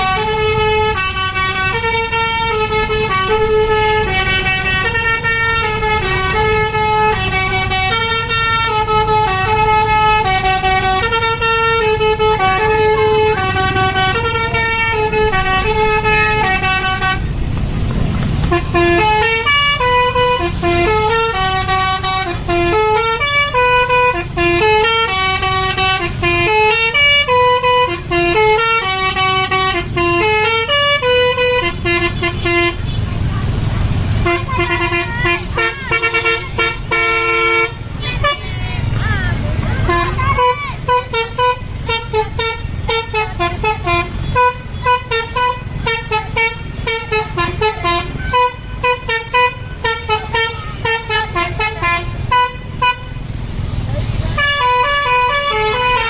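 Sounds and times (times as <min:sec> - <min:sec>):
musical bus horn tune: 0:00.0 - 0:17.4, 0:18.4 - 0:39.0, 0:39.6 - 0:53.4, 0:54.1 - 0:56.0.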